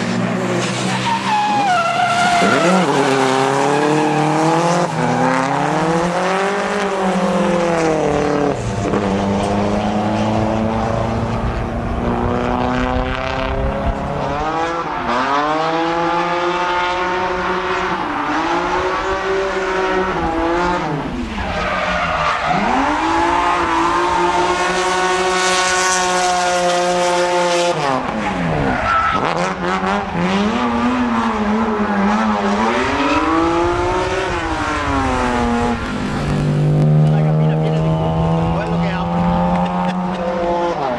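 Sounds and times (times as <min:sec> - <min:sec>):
car engine revving hard: 0:00.0 - 0:40.9
tyres skidding: 0:00.0 - 0:40.9.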